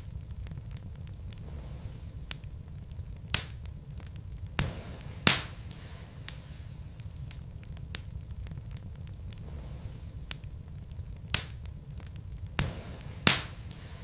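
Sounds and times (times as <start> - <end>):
logs crackling: 0.0 - 14.0
loud pops of fire: 0.0 - 14.0
low rumble of flames: 0.0 - 14.0.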